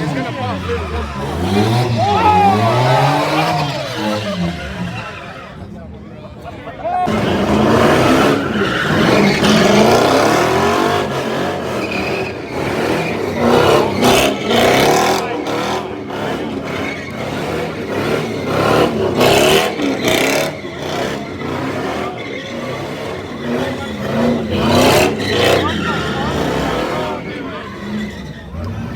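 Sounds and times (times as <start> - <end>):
car engine revving hard: 0.0 - 5.6, 7.1 - 28.9.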